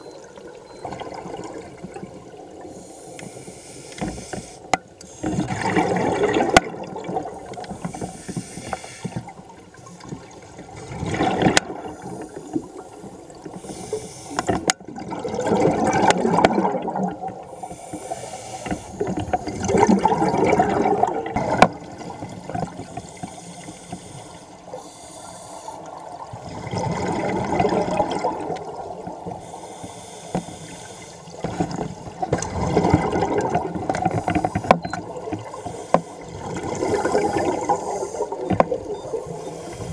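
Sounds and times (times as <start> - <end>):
underwater breath bubbles: 0.8 - 9.4, 10.7 - 39.9.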